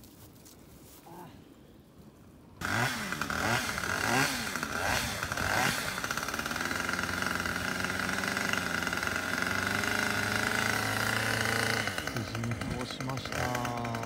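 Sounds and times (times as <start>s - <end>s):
chainsaw revving: 2.6s - 14.0s.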